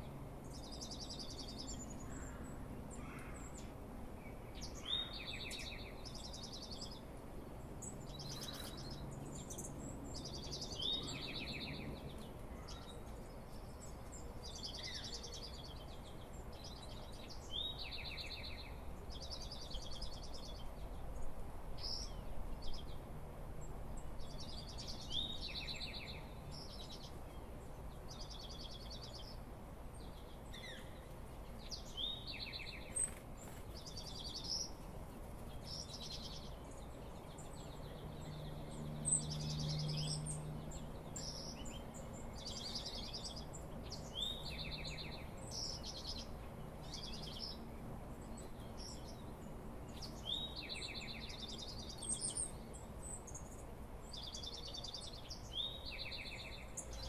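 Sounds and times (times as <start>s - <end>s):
bird song with trill: 0.0s - 57.0s
songbirds singing: 0.0s - 57.0s.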